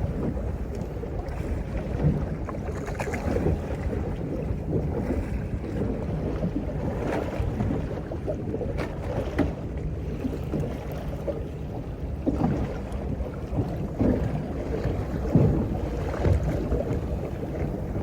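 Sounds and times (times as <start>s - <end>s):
low rumble of water: 0.0s - 18.0s
water slapping boat hull: 0.0s - 18.0s
wind: 0.0s - 18.0s.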